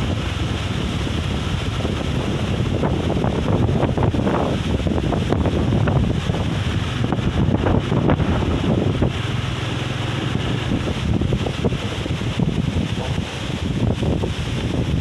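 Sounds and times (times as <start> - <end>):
strong gusty wind on microphone: 0.0 - 15.0.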